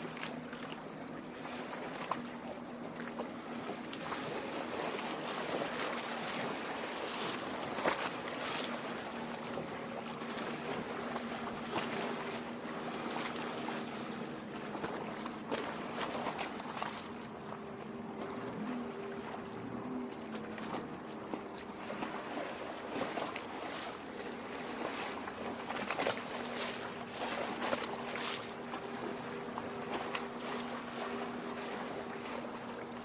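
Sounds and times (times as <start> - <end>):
lake water lapping on shore: 0.0 - 33.0.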